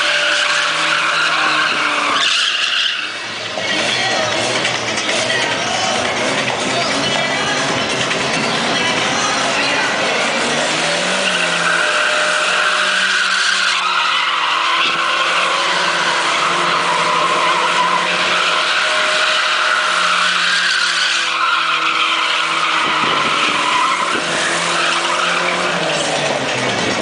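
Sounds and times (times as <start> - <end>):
car engine revving: 0.0 - 27.0
tyres squealing: 0.0 - 27.0.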